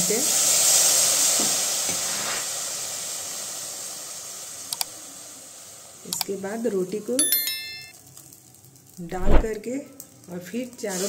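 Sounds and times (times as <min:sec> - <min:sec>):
water hissing in hot wok: 0:00.0 - 0:07.2, 0:08.8 - 0:11.0.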